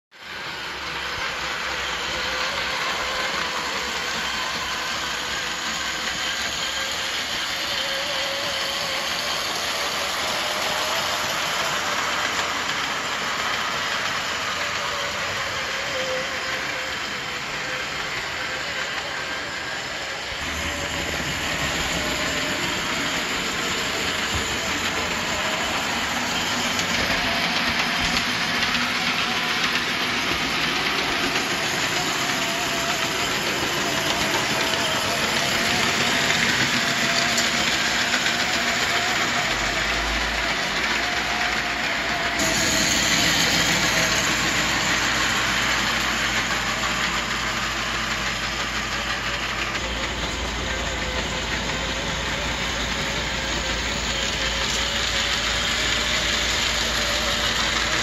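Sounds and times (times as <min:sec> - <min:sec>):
model train motor whirring: 0:00.2 - 0:58.0
wheels rolling on rails: 0:00.2 - 0:58.0.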